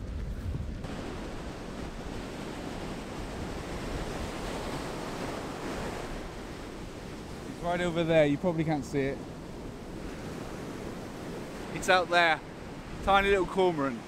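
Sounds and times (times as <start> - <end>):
wind rumbling on microphone: 0.0 - 11.8
surf breaking on beach: 0.0 - 14.0.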